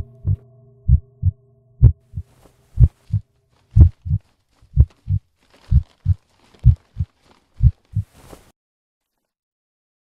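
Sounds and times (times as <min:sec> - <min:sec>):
heartbeat thumps: 0:00.0 - 0:08.3.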